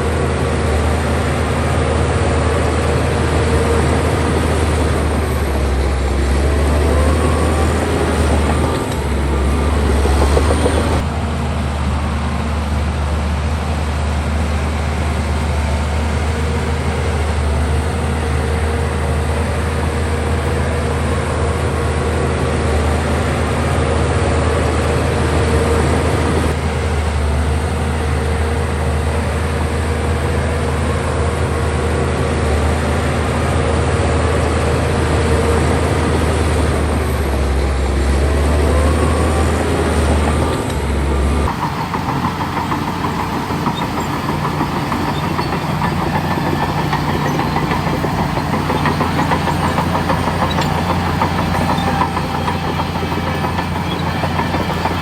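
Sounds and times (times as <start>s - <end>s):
heavy diesel engine drone: 0.0s - 55.0s.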